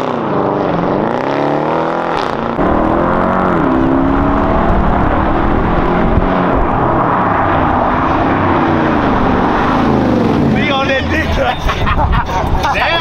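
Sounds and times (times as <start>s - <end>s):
car engine and exhaust revving: 0.0s - 13.0s.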